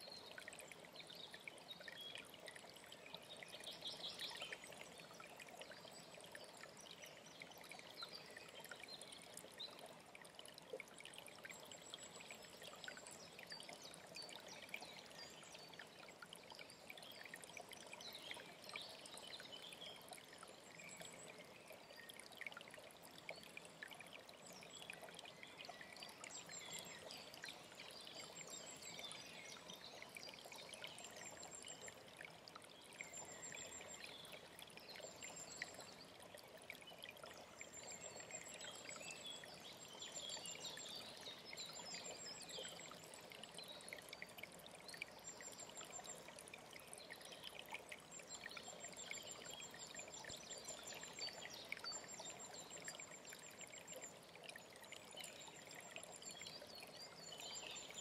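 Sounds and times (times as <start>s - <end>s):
stream trickling over stones: 0.0s - 58.0s.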